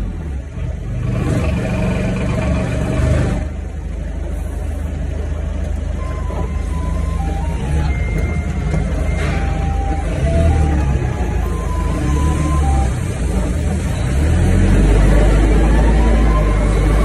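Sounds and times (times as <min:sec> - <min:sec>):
forklift engine droning: 0:00.0 - 0:17.0.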